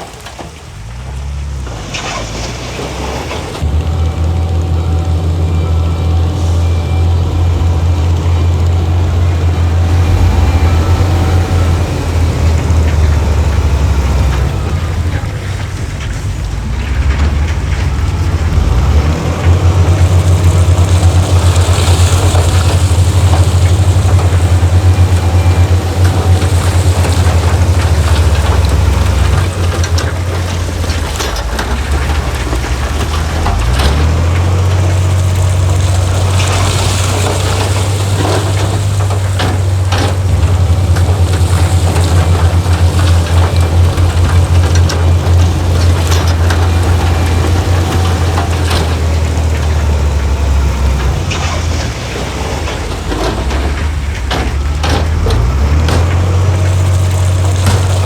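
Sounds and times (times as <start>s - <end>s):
heavy diesel machinery engine drone: 0.0s - 58.0s.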